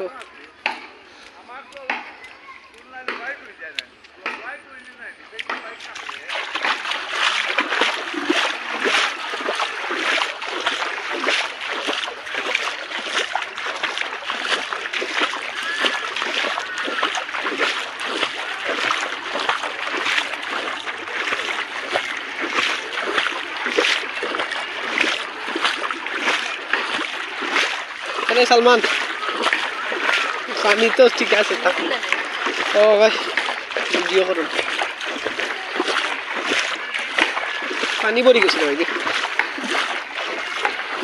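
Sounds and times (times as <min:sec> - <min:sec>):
floodwater splashing: 0:00.0 - 0:41.0.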